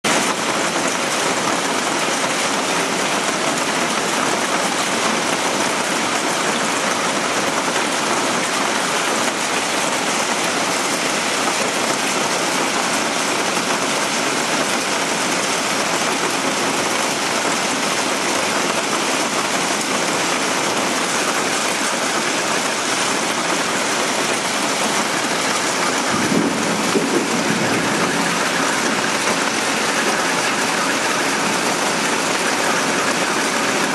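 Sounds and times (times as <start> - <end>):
hail and rain on a sheet roof: 0.0 - 33.9.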